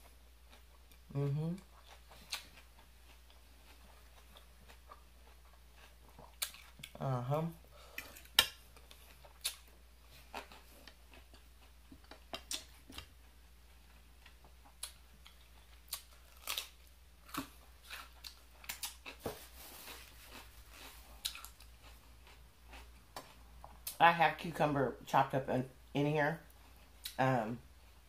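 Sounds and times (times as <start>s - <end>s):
chewing salad crunches: 0.4s - 7.0s, 7.8s - 24.0s.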